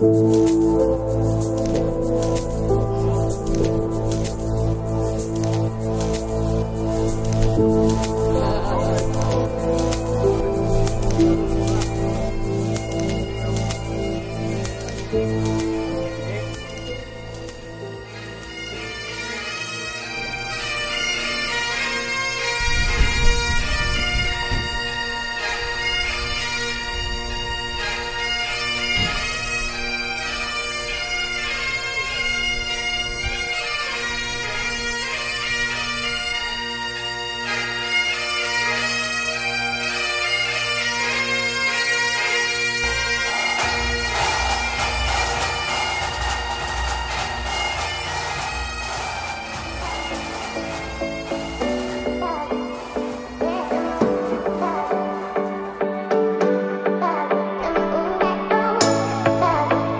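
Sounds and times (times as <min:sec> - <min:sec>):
bagpipes playing a tune: 0:00.0 - 0:56.4.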